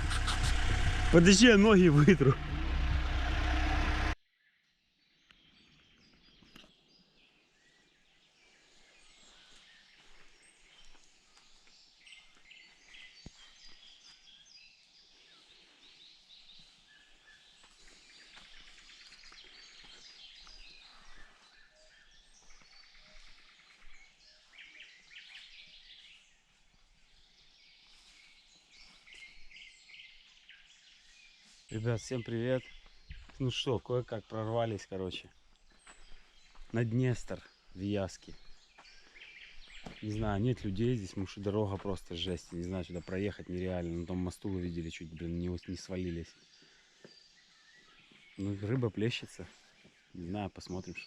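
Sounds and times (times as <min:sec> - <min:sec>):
faint songbirds chirping: 0:00.0 - 0:51.0.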